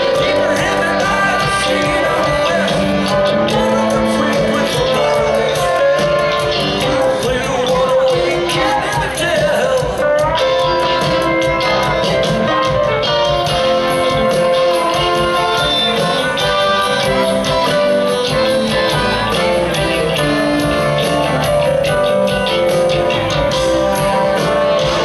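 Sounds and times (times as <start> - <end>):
drum beat: 0.0 - 25.0
electric guitar: 0.0 - 25.0
horn section: 0.0 - 25.0
pedal steel guitar: 0.0 - 25.0.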